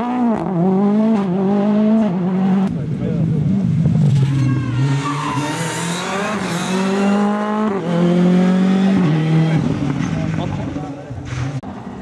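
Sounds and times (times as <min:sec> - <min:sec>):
rally car engine accelerating: 0:00.0 - 0:11.7.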